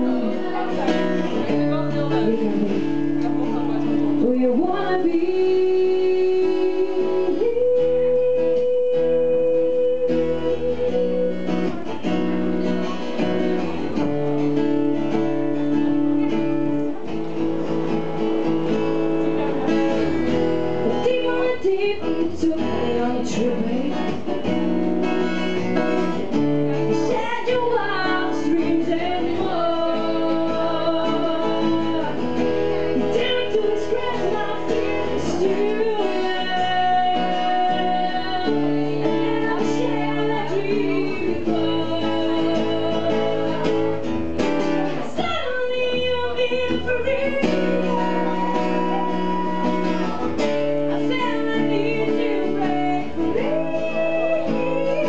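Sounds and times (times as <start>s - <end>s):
woman singing: 0.0s - 16.9s, 18.8s - 55.0s
guitar accompaniment: 0.0s - 55.0s.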